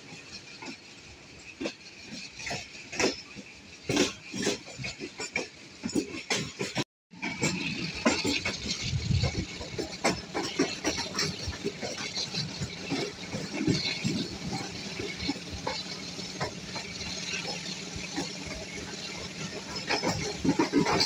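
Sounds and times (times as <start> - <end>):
diesel locomotive drone: 0.0 - 21.0
train wheels clicking over track: 0.0 - 21.0.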